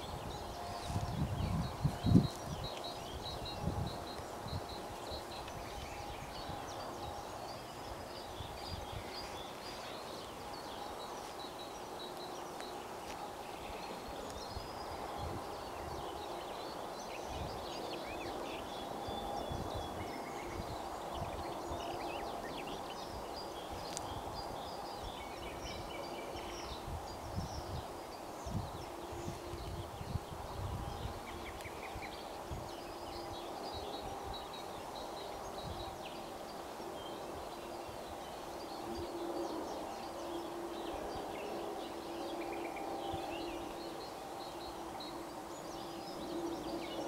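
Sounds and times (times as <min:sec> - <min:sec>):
small birds chirping: 0:00.0 - 0:47.0
wind buffeting microphone: 0:00.0 - 0:47.0.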